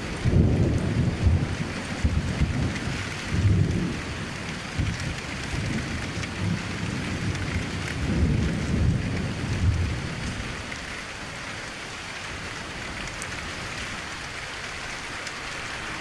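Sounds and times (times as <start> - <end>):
rain pattering on window: 0.0 - 16.0.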